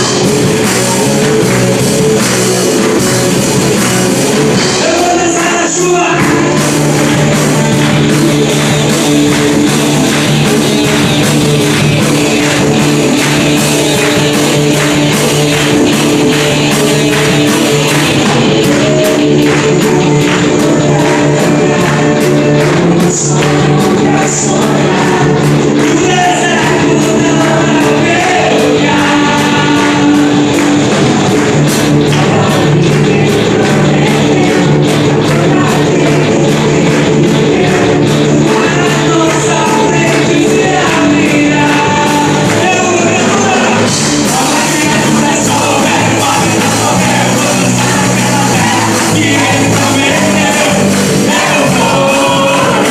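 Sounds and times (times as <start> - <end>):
band accompaniment: 0.0 - 52.9
people singing: 0.0 - 52.9
steady drum beat: 0.0 - 52.9.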